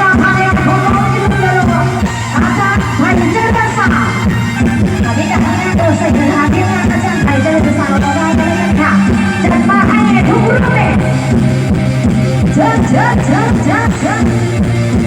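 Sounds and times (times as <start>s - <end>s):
live band music over loudspeakers: 0.0s - 15.0s.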